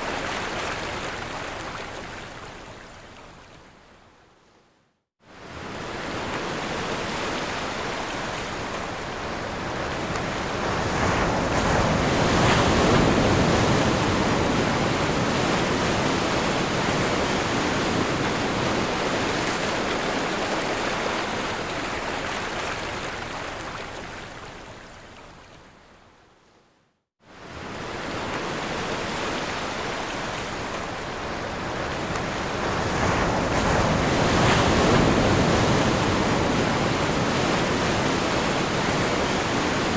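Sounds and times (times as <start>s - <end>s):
ocean waves breaking on shore: 0.0s - 3.6s, 5.2s - 25.6s, 27.2s - 39.9s.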